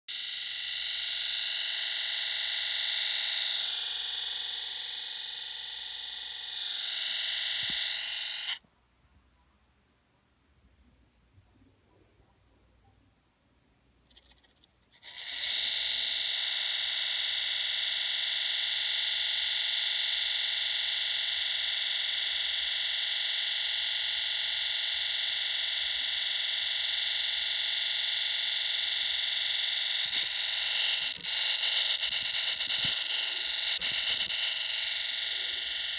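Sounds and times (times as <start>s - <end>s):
laptop fan grinding whine: 0.1s - 8.6s, 14.1s - 35.9s.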